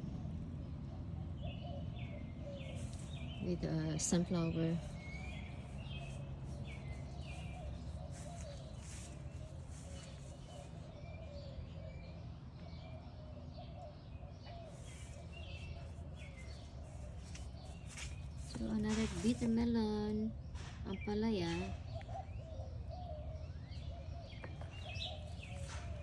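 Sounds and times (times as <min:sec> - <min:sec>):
low background hum: 0:00.0 - 0:26.0
small birds chirping: 0:00.0 - 0:26.0.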